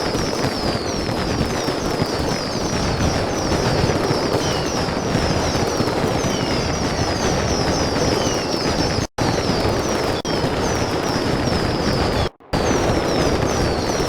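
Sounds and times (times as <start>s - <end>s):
fireworks crackling and popping: 0.0s - 14.0s
high falling firework whistles: 0.0s - 14.0s.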